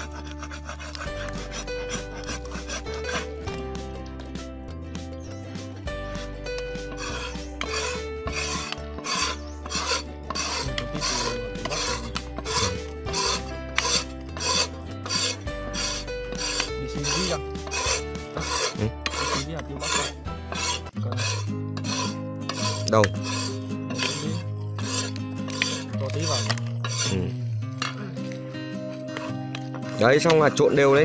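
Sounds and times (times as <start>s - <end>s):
spoon scraping a metal pot: 0.0s - 3.6s, 6.1s - 31.0s.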